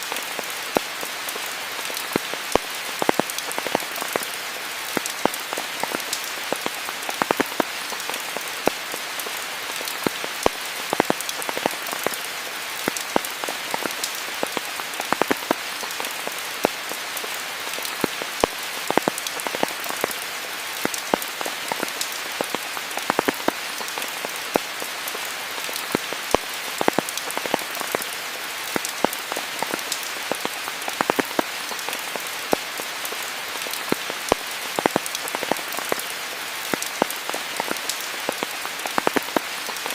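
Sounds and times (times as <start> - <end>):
steady rain hiss: 0.0 - 39.9
sharp taps of raindrops: 1.9 - 39.9.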